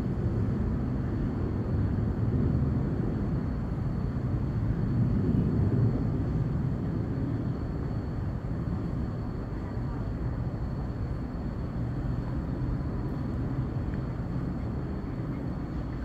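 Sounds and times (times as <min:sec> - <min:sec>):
faint high whine: 0:00.0 - 0:16.0
low outdoor rumble: 0:00.0 - 0:16.0.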